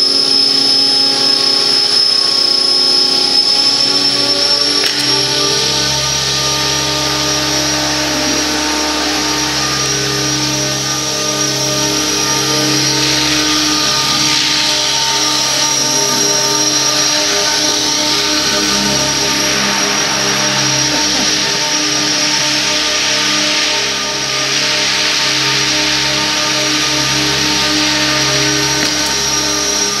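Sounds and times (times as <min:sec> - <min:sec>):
helicopter rotor noise: 0:00.0 - 0:30.0
model helicopter whine: 0:00.0 - 0:30.0.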